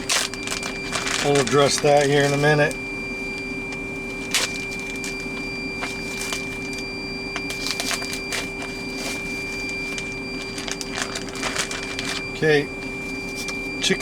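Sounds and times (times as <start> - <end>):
plastic bags crinkling: 0.0 - 3.4, 4.1 - 13.6
machine hum with high whine: 0.0 - 14.0.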